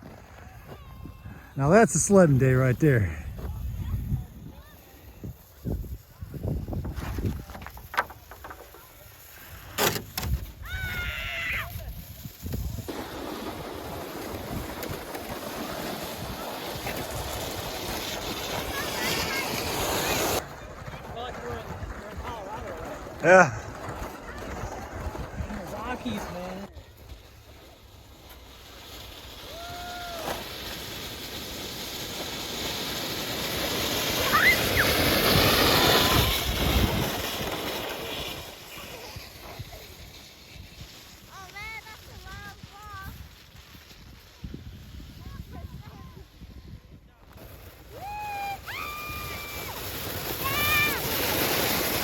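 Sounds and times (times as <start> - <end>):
sled scraping over ice: 0.0 - 52.0.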